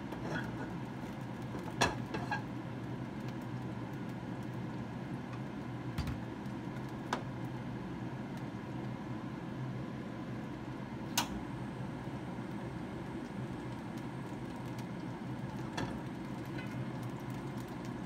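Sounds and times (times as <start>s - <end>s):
low kitchen hum: 0.0s - 18.0s.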